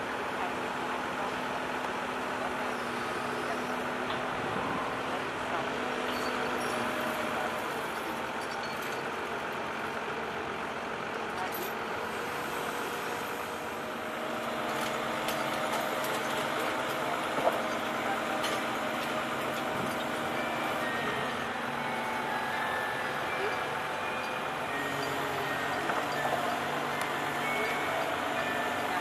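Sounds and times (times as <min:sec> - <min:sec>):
heavy construction machinery running: 0:00.0 - 0:29.0.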